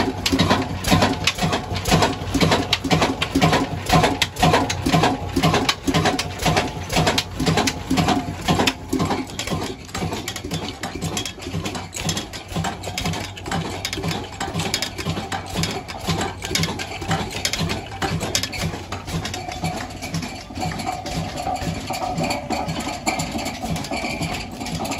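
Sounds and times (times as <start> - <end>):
belt and pulley clatter: 0.0 - 24.9
diesel engine running: 0.0 - 24.9.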